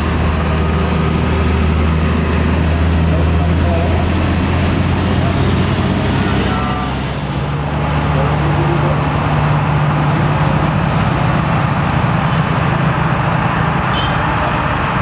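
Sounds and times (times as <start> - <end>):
road traffic noise: 0.0 - 15.0
truck diesel engine running: 0.0 - 15.0.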